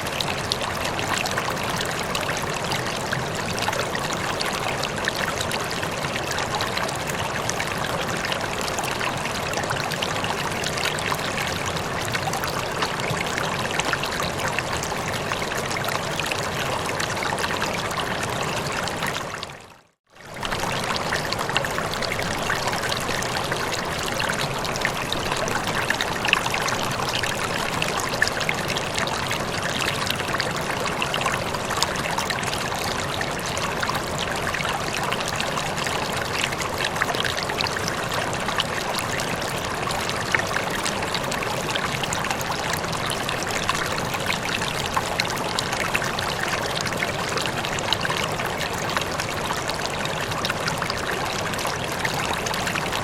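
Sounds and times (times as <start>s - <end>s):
running water flowing: 0.0s - 53.0s.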